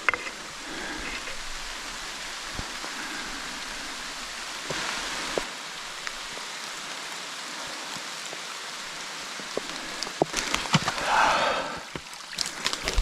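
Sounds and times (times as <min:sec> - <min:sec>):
rain falling on bush: 0:00.0 - 0:13.0
water drips: 0:00.2 - 0:13.0.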